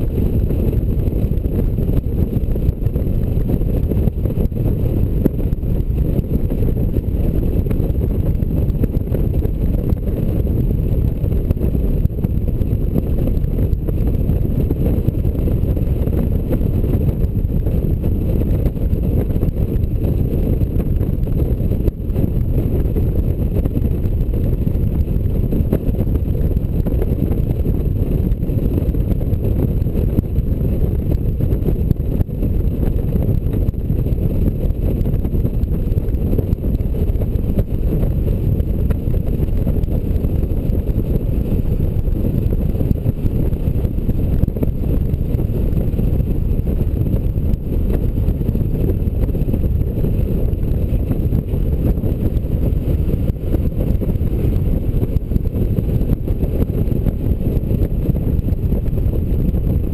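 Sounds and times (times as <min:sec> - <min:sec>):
motorcycle engine and road noise: 0:00.0 - 0:59.9
wind buffeting microphone: 0:00.0 - 0:59.9.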